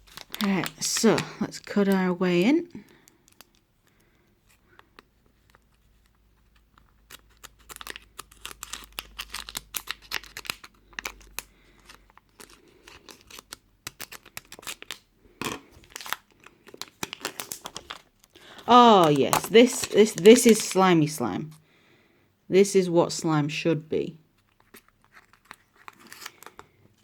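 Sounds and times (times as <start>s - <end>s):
plastic packet crinkling and tearing: 0.0s - 21.2s, 24.4s - 27.0s.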